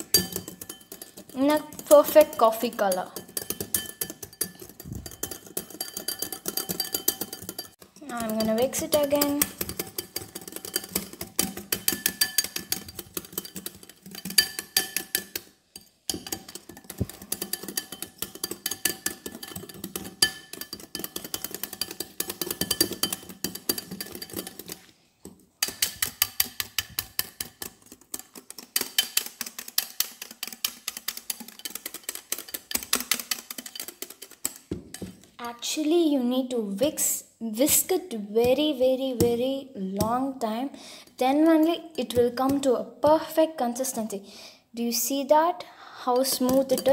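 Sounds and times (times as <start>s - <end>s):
whisk clicking against glass bowl: 0.0s - 35.3s, 41.3s - 43.2s, 46.2s - 46.9s.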